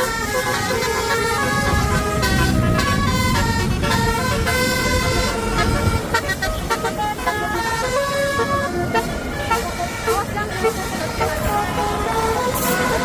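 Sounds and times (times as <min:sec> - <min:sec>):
engines rumbling: 0:00.0 - 0:13.0
musical air horn: 0:00.0 - 0:13.0.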